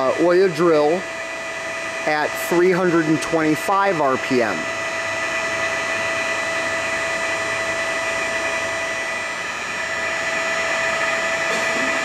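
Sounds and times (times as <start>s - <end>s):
drill spindle machine whine: 0.0s - 12.0s.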